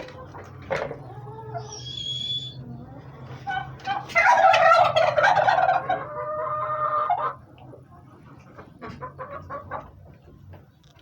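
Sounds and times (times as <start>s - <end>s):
turkey gobbling: 0.0s - 10.2s.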